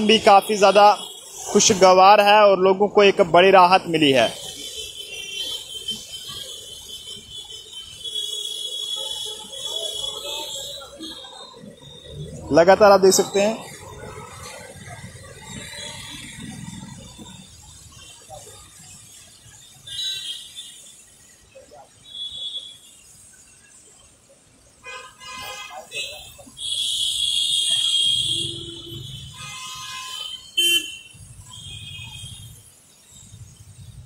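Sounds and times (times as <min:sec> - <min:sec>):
faint street traffic rumble: 0:00.0 - 0:34.0
tyres hissing on wet road: 0:00.0 - 0:34.0.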